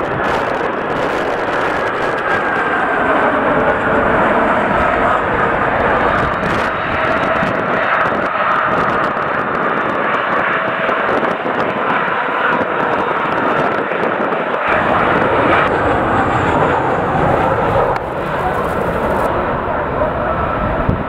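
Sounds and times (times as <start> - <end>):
deep rumble: 0.0 - 21.0
jet engines rushing: 0.0 - 21.0.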